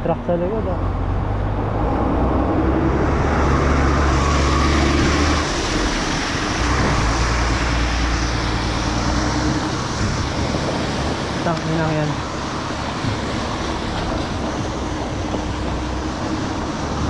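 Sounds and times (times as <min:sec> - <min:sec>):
road noise: 0:00.0 - 0:17.0
truck engine humming: 0:00.0 - 0:17.0.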